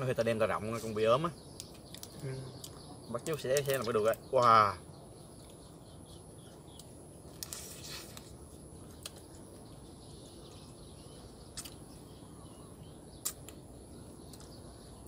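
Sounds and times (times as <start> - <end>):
faint bird chirps: 0.0 - 15.0
low ambient hum: 0.0 - 15.0.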